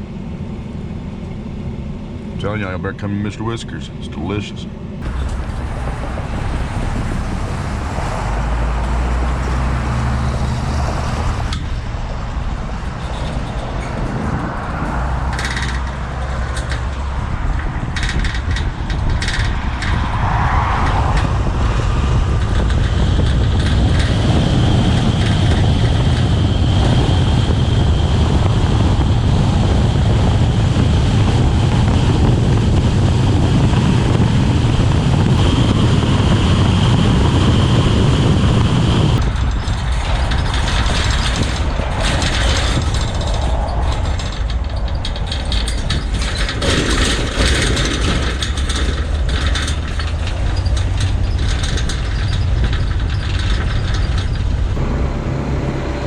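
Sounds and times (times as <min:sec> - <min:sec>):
low engine hum: 0:00.0 - 0:56.0
road and wind noise: 0:00.0 - 0:56.0.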